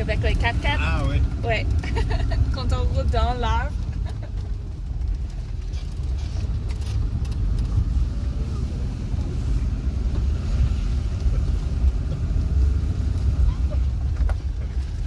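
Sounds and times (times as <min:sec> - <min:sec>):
engine and tyres rumbling: 0:00.0 - 0:15.0.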